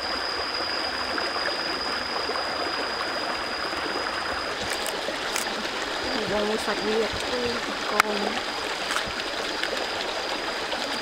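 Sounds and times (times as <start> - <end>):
stream water rushing: 0.0 - 11.0
thin high whine: 0.0 - 11.0.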